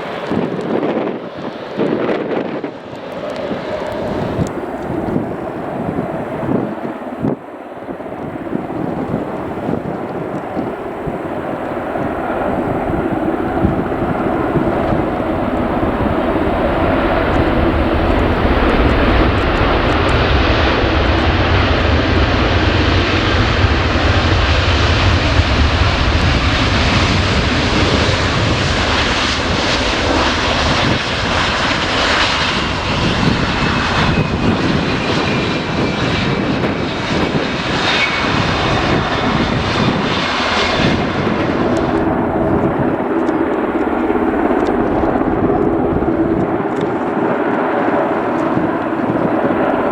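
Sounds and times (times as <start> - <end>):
airliner engines rushing: 0.0 - 49.9
jet engine whine: 0.0 - 49.9.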